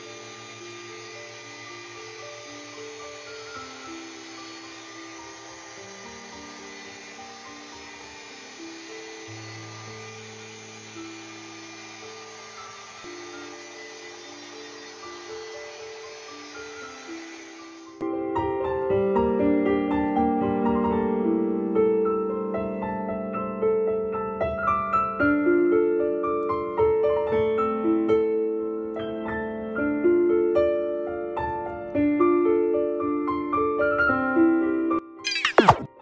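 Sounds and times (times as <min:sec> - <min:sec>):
instrumental piano-like music: 0:00.0 - 0:36.0.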